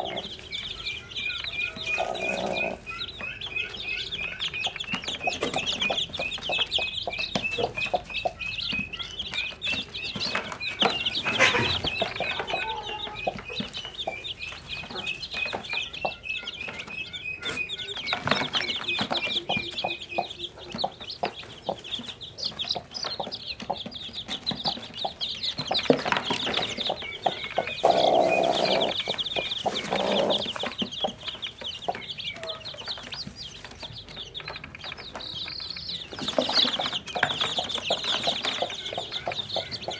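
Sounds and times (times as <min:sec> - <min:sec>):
hen clucking: 0:00.0 - 0:34.4, 0:35.4 - 0:39.9
chicks peeping shrilly: 0:00.0 - 0:39.9.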